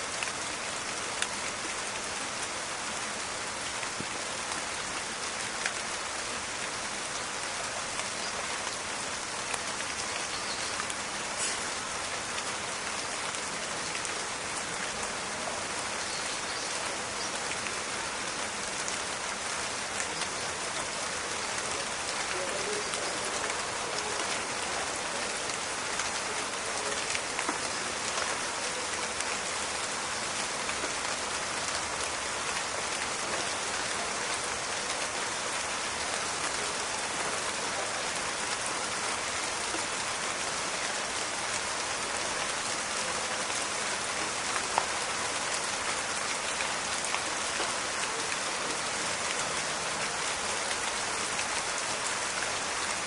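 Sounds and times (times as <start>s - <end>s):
rain falling in forest: 0.0s - 53.0s.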